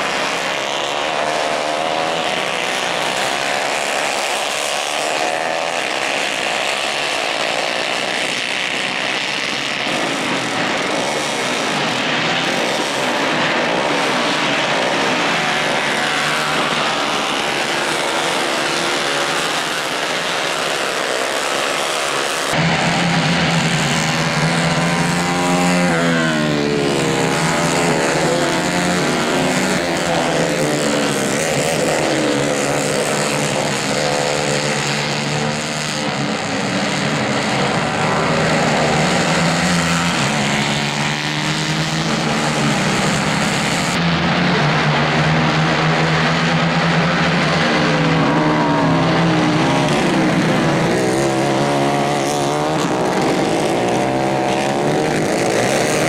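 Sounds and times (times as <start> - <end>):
racing kart engines: 0.0 - 56.0.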